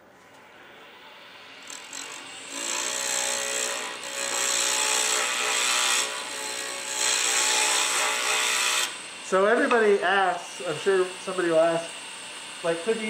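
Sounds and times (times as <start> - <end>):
lathe motor whine: 0.3 - 13.0
lathe tool cutting wood hiss: 0.8 - 13.0.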